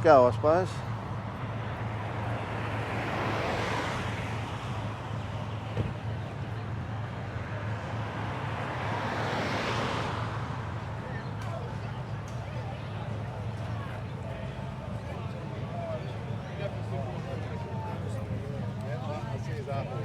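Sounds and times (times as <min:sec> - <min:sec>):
vehicles passing: 0:00.0 - 0:20.0.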